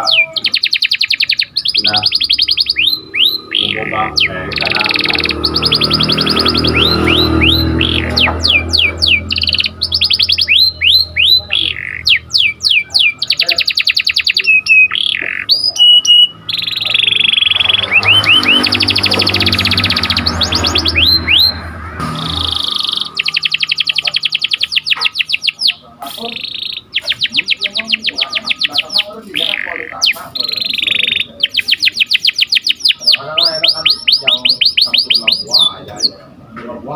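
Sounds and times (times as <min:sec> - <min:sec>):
canary singing trills: 0:00.0 - 0:36.6.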